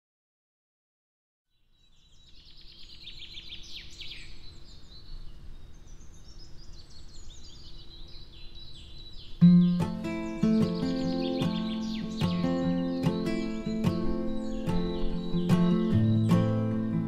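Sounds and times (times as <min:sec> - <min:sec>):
birds chirping and trilling: 0:01.5 - 0:17.0.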